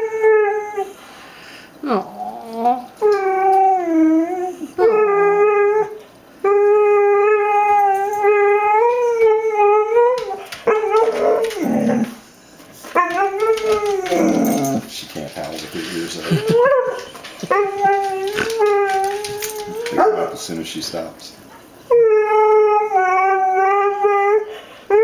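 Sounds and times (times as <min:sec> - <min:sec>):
dog howling: 0:02.0 - 0:12.2, 0:12.9 - 0:15.6, 0:16.2 - 0:20.4, 0:21.9 - 0:25.0.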